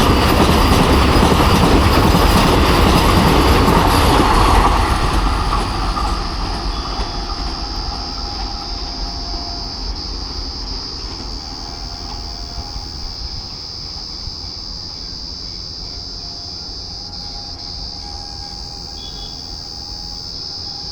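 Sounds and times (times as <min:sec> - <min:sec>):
insects chirping: 0:00.0 - 0:20.9
train rumbling on track: 0:00.0 - 0:20.9.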